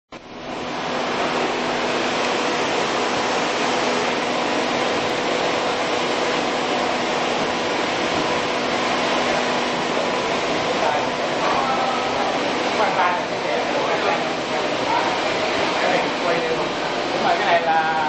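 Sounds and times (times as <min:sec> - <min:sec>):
milling machine running: 0:00.2 - 0:18.0.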